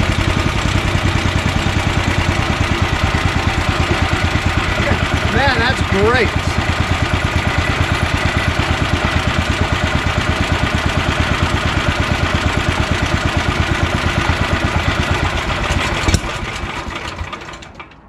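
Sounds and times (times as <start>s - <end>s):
engine idling: 0.0s - 18.0s
engine running down: 0.0s - 18.0s.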